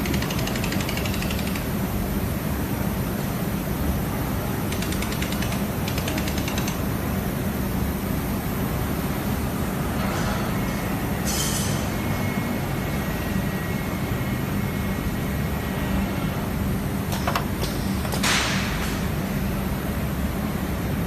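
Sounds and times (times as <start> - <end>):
laser welding machine hum and hiss: 0.0 - 21.0.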